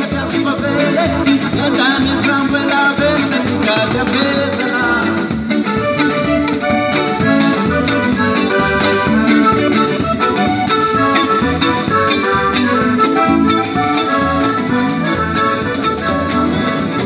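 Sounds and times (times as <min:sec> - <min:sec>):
bass guitar: 0:00.0 - 0:17.0
drum kit: 0:00.0 - 0:17.0
electric guitar: 0:00.0 - 0:17.0
held melody notes: 0:00.0 - 0:17.0
keyboard: 0:00.0 - 0:17.0.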